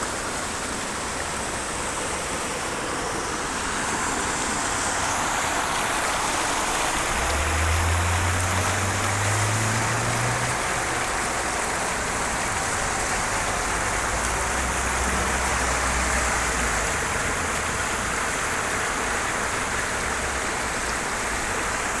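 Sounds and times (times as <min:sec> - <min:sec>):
rain falling and splashing: 0:00.0 - 0:22.0.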